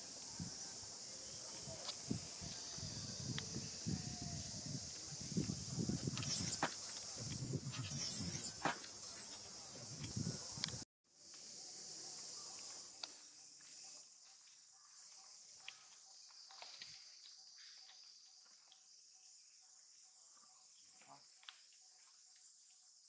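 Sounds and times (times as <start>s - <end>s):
insect chorus buzzing: 0.0s - 23.0s.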